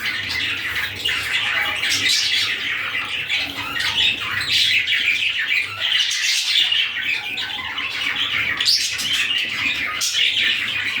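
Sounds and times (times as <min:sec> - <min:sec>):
budgerigar chattering and warbling: 0:00.0 - 0:11.0.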